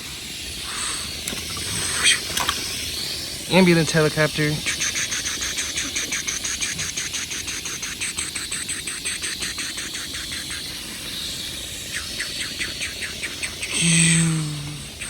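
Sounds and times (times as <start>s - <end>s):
insects chirping in fast pulse: 0.0s - 15.0s.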